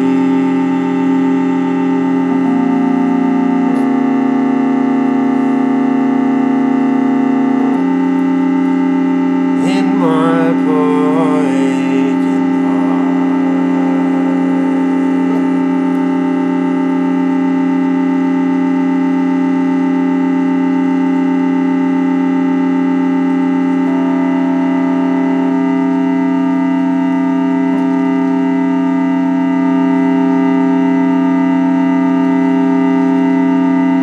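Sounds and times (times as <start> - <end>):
keyboard organ drone chords: 0.0 - 34.0.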